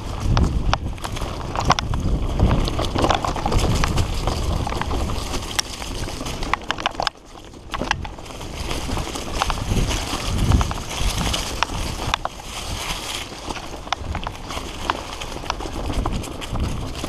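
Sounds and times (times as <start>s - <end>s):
bike rattling over bumps: 0.0s - 17.0s
bike tyres rolling on dirt: 0.0s - 17.0s.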